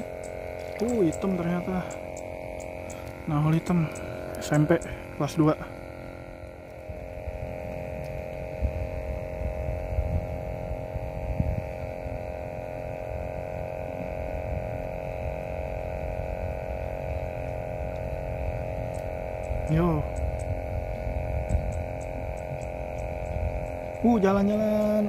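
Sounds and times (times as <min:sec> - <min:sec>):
droning hum: 0:00.0 - 0:25.0.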